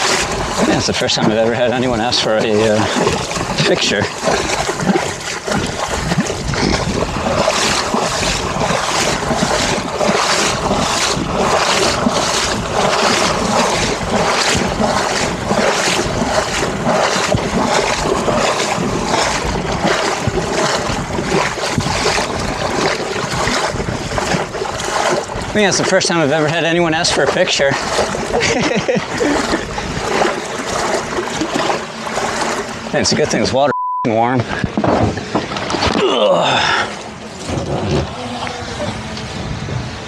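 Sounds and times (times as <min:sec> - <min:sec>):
wind buffeting microphone: 0:00.0 - 0:33.5, 0:36.9 - 0:40.0
legs wading through water: 0:00.0 - 0:40.0.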